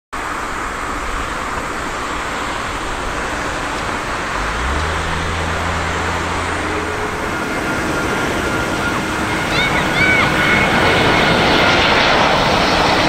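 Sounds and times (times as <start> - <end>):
airliner jet engine: 0.2 - 13.0
low hum: 0.4 - 13.0.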